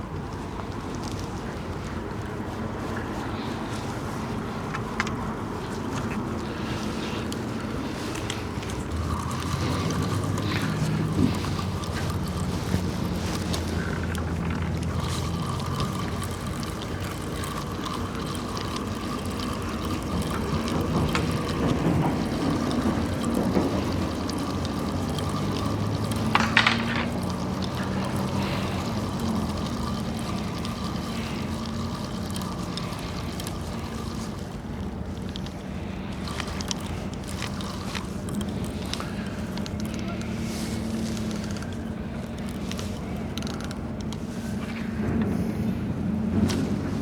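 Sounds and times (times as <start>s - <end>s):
low mechanical hum with whine: 0.0s - 47.0s.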